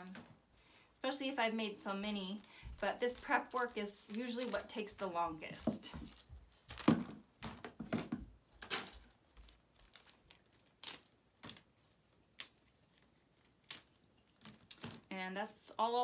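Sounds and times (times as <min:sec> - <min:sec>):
plastic berries rustling and clicking: 0:01.8 - 0:15.6.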